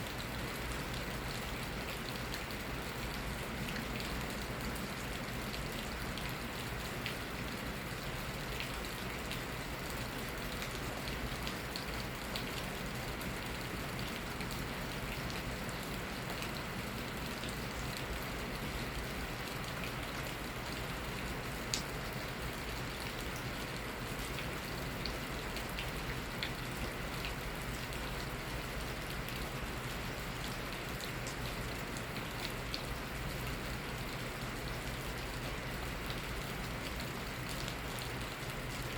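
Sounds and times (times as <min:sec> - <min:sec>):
rain falling: 0:00.0 - 0:38.9
raindrops ticking on a surface: 0:00.0 - 0:38.9.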